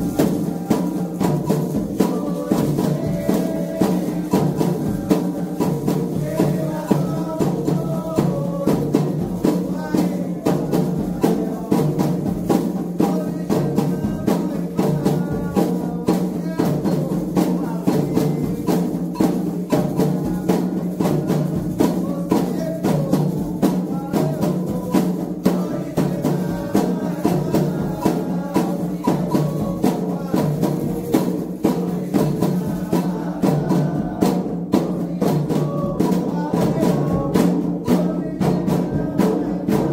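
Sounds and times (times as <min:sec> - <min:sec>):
hand drums and percussion: 0:00.0 - 0:39.9
voices singing: 0:00.0 - 0:39.9.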